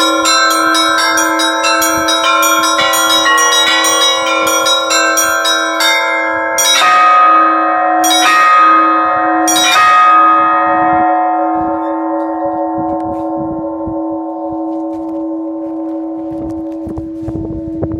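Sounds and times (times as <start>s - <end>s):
heavy church bells ringing: 0.0s - 17.8s.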